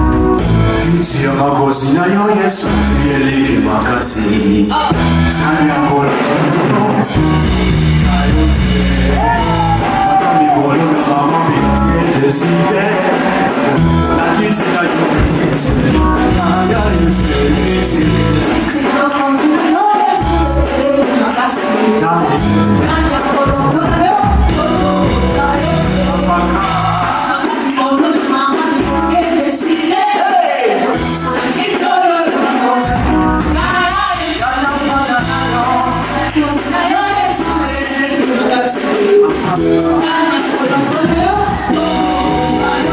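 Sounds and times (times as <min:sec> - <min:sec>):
bass: 0:00.0 - 0:19.1, 0:20.2 - 0:21.1, 0:22.0 - 0:27.5, 0:28.8 - 0:29.5, 0:30.9 - 0:31.7, 0:32.8 - 0:38.3, 0:39.2 - 0:42.9
band playing worship music: 0:00.0 - 0:42.9
voices singing: 0:00.8 - 0:42.9.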